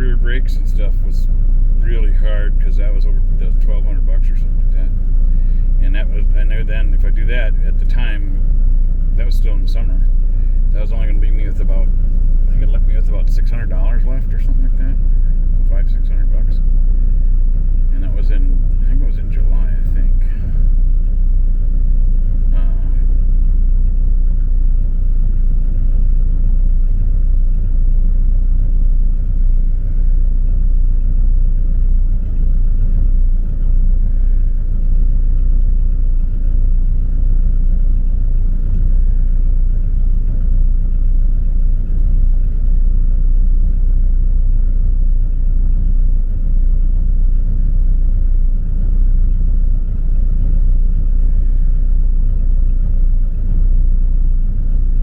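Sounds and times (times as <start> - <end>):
engine idling rough: 0.0 - 55.0.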